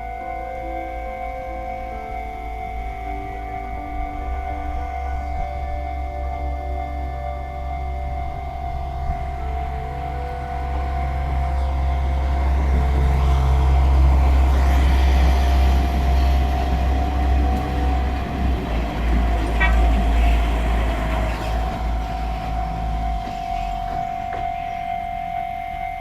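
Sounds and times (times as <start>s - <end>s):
level crossing alarm ringing: 0.0s - 26.0s
train rumbling past: 0.0s - 26.0s.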